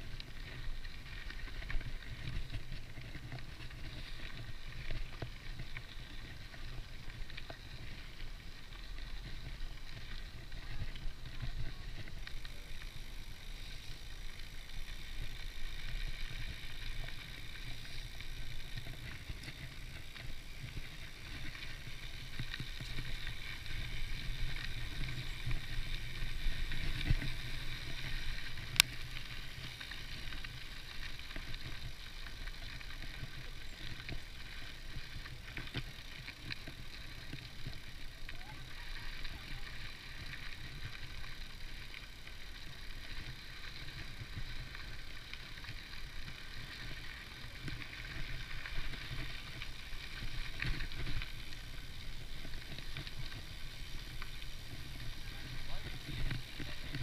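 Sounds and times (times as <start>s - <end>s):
bicycle freehub buzzing: 0.0s - 57.0s
tyres rolling on gravel: 0.0s - 57.0s.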